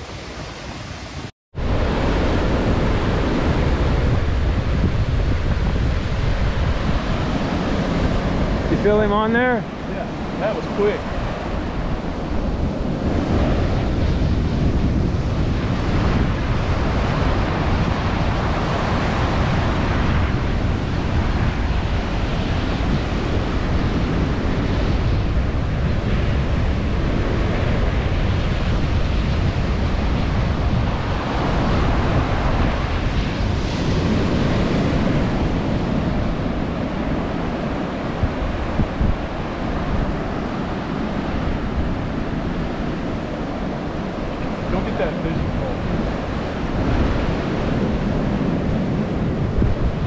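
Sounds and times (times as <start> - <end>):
ocean surf breaking on beach: 0.0 - 50.0
wind rumbling on microphone: 0.0 - 50.0.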